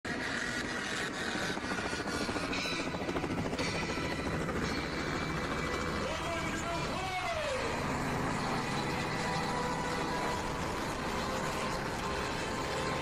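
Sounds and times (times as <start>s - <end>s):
helicopter rotor and engine: 0.1s - 13.0s.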